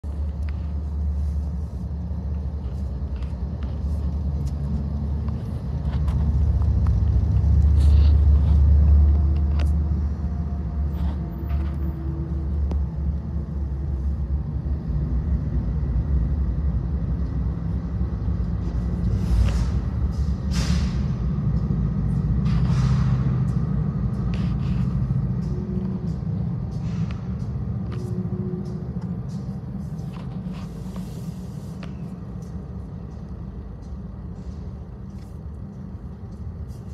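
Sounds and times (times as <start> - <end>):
diesel locomotives rumbling: 0.0 - 36.9.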